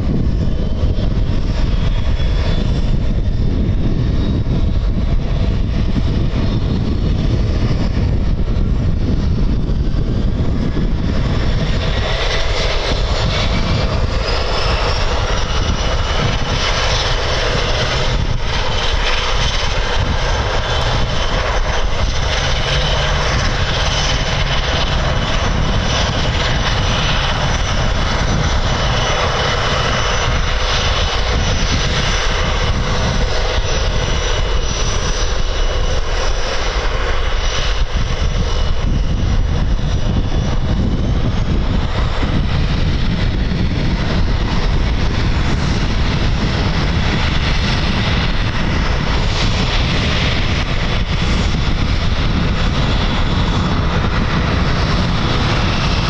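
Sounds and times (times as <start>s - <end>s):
turbine engines whining: 0.0s - 56.0s.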